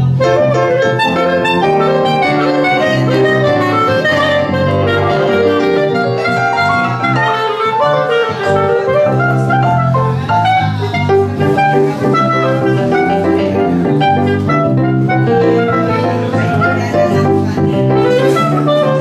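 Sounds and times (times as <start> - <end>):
bass: 0.0 - 19.0
clarinet melody: 0.0 - 19.0
digital piano: 0.0 - 19.0.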